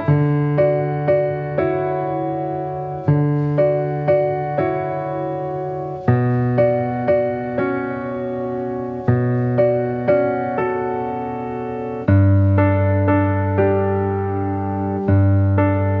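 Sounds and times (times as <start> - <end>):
piano keyboard music: 0.0 - 16.0.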